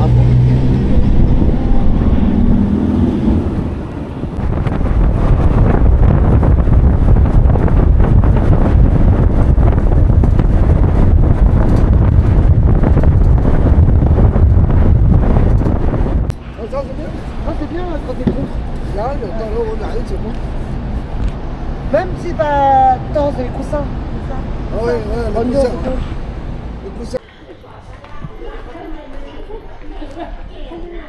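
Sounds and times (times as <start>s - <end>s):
gusty wind buffeting microphone: 0.0s - 27.2s
truck engine: 0.0s - 27.2s
road noise: 0.0s - 31.0s
traffic noise: 0.0s - 31.0s.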